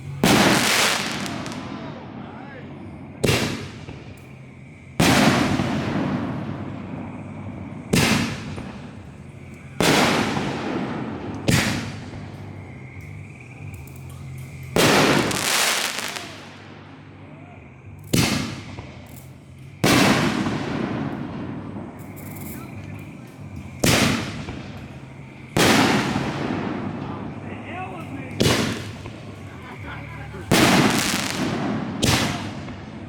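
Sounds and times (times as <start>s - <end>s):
fireworks bangs: 0.0s - 17.2s, 18.0s - 33.0s.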